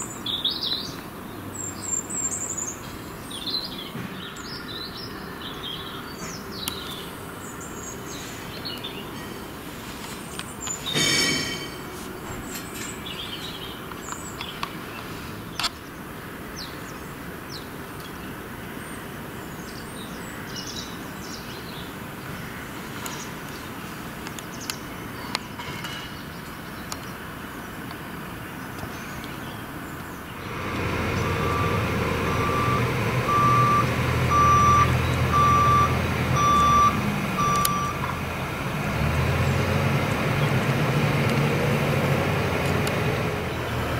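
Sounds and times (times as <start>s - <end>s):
small birds chirping: 0.0s - 38.1s.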